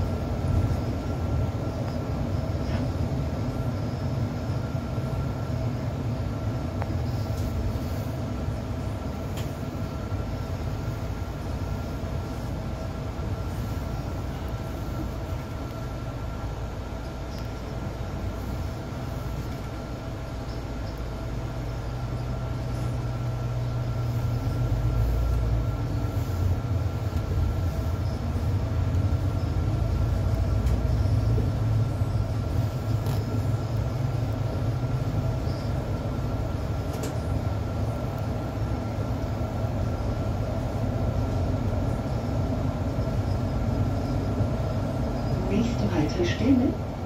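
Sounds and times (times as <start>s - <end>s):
bus engine rumble: 0.0s - 47.0s.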